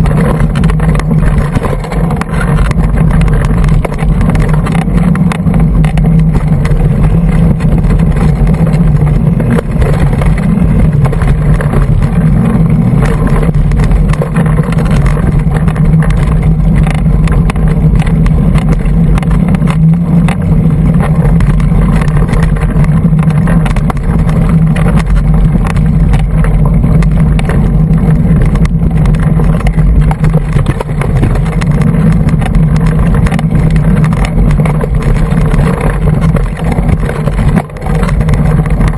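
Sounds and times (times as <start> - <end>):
bike and camera mount rattling: 0.0 - 38.9
wind rumble: 0.0 - 38.9.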